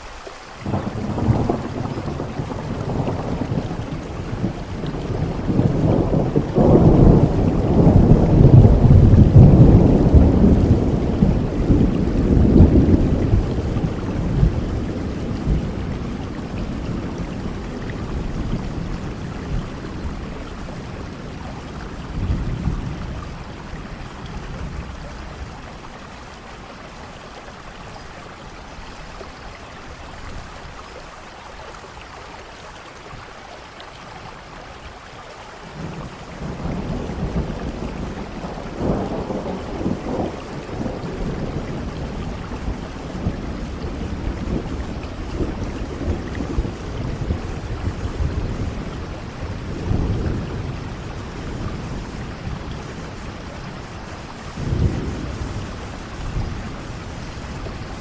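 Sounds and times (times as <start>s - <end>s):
steady rain falling: 0.0s - 58.0s
rolling thunder: 0.6s - 26.0s, 35.7s - 58.0s.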